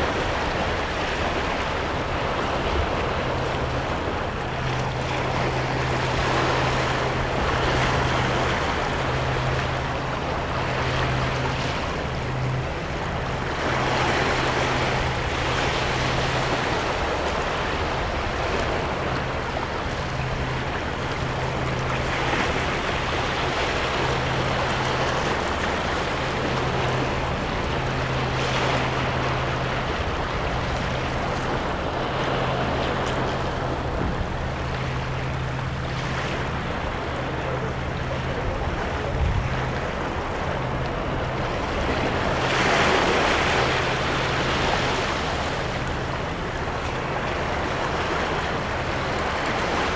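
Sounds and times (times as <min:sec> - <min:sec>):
low steady hum: 0:00.0 - 0:49.9.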